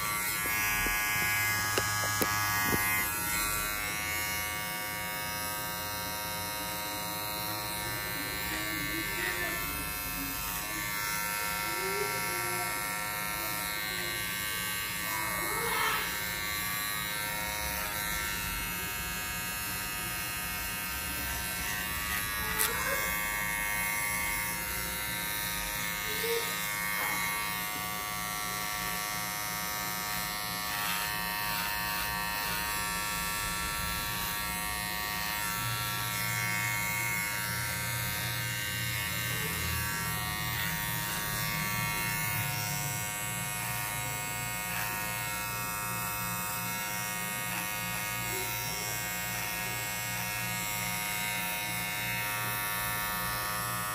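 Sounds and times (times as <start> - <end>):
hair trimmer buzzing: 0.0 - 53.9.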